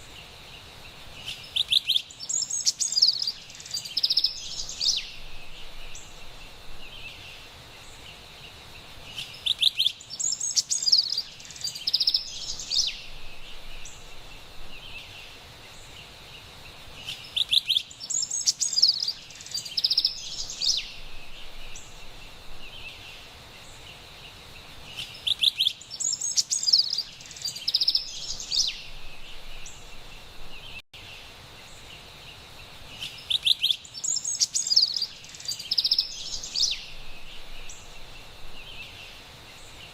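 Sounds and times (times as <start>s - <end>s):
wren singing: 0.0s - 16.2s, 17.0s - 24.0s, 24.8s - 30.8s, 32.9s - 39.9s
faint background hiss: 0.0s - 39.9s.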